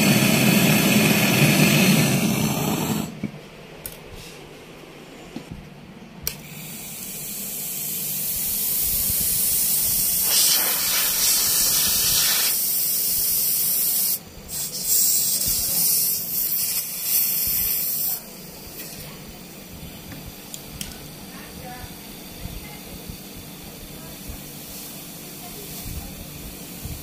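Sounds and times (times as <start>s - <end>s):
gas hissing from pipe: 0.0s - 3.2s, 6.2s - 27.0s.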